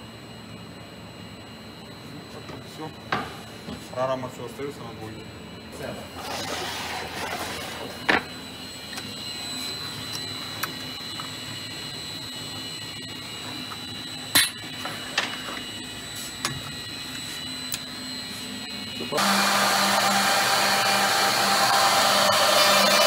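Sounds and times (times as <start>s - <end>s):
high-pitched motor whine: 0.0s - 23.0s.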